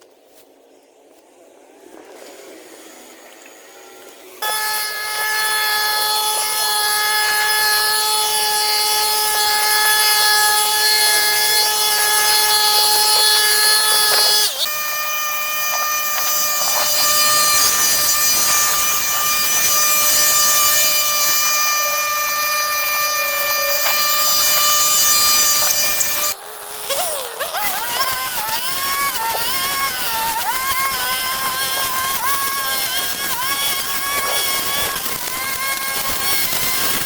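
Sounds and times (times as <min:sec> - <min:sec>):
garden power tool motor whine: 0:01.5 - 0:37.0.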